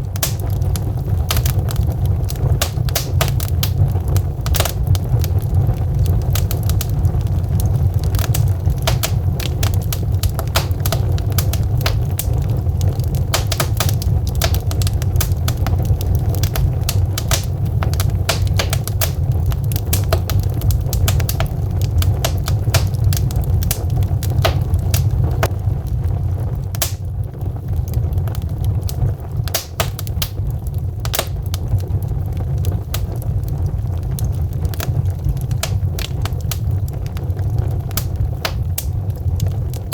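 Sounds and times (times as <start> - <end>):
fire crackling and popping: 0.0 - 39.9
fire low rumble: 0.0 - 39.9.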